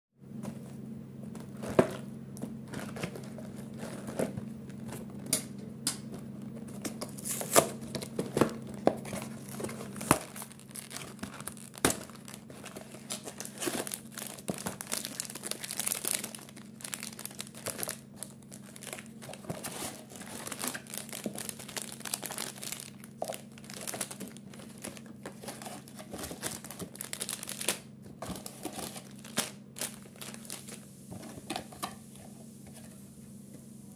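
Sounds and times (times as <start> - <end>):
steady low hum: 0.2 - 33.9
plastic wrappers crinkling: 1.4 - 5.3, 6.1 - 31.9.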